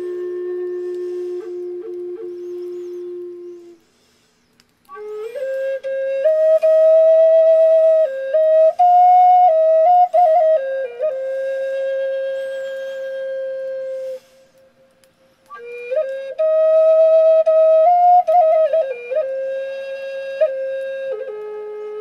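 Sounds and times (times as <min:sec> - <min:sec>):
solo flute melody: 0:00.0 - 0:22.0.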